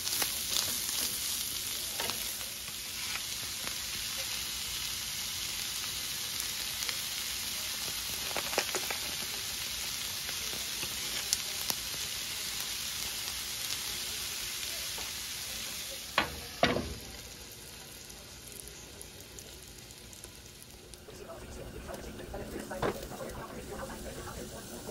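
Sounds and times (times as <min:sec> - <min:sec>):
food sizzling on a griddle: 0:00.0 - 0:24.9.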